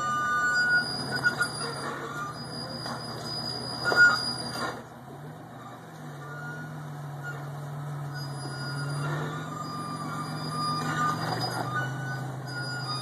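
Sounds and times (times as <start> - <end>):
buggy engine running: 0.0 - 13.0.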